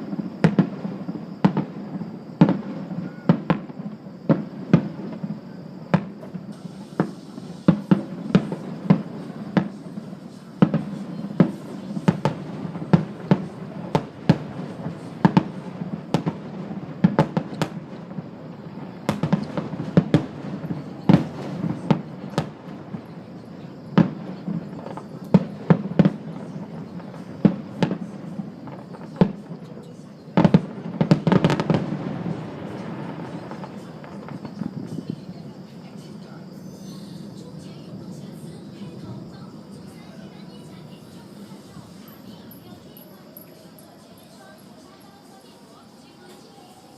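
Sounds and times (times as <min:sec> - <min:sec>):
fireworks bangs: 0:00.0 - 0:46.9
fireworks crackle: 0:00.0 - 0:46.9.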